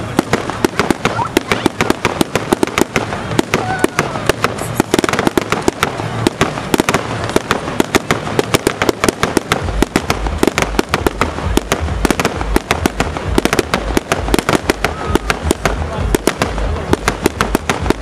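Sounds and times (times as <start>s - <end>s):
fireworks popping and crackling: 0.0s - 18.0s
low rumble: 0.0s - 18.0s.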